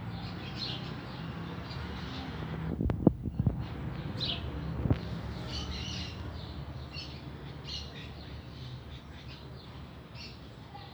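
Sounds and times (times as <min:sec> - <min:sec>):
small birds chirping: 0:00.0 - 0:02.5, 0:03.2 - 0:10.9.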